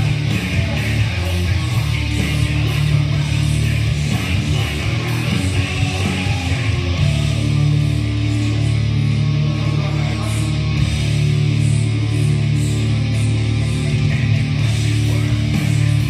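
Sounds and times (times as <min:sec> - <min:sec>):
guitar music with low held notes: 0:00.0 - 0:16.0.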